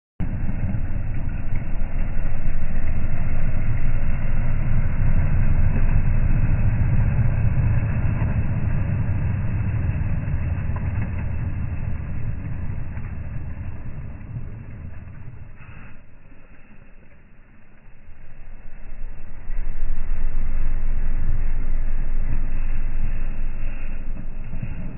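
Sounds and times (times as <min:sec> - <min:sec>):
suv engine rumbling: 0:00.2 - 0:24.9.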